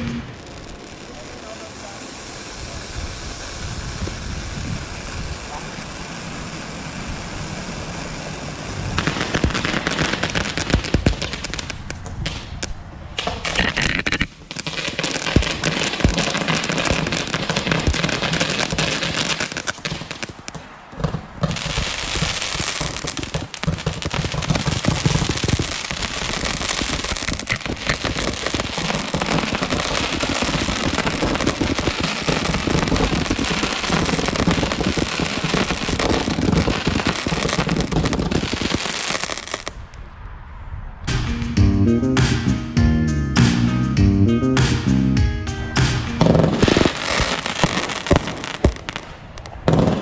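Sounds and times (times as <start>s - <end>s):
fireworks shots and crackling: 0.0s - 40.2s, 41.1s - 41.6s, 45.8s - 50.0s.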